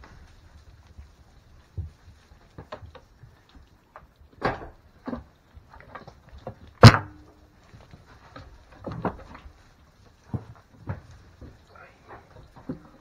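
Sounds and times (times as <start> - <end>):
knocks and clatters: 1.7 - 13.0.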